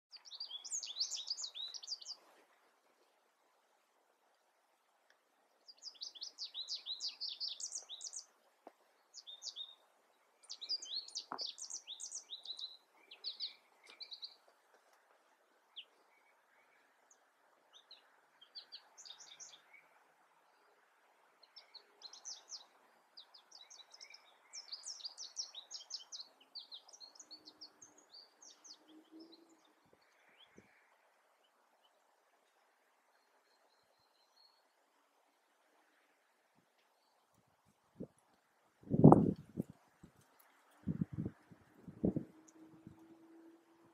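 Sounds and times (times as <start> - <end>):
songbirds chirping: 0.0 - 43.9
faint background hiss: 0.1 - 43.9.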